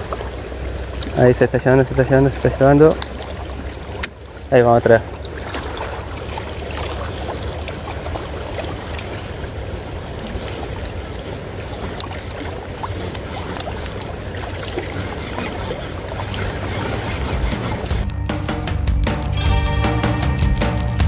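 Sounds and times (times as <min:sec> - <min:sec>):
river current rushing: 0:00.0 - 0:19.5.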